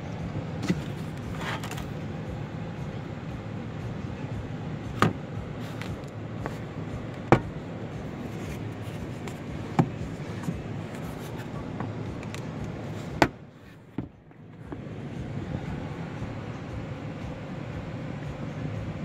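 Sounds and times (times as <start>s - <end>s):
steady background rush: 0.0s - 19.0s.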